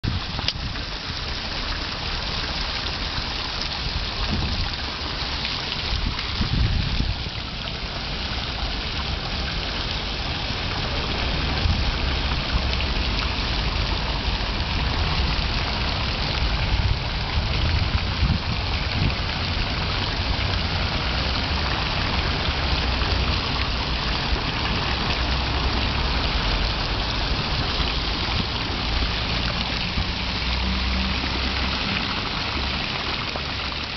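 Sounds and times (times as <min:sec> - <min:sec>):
fountain water splashing: 0:00.0 - 0:33.9.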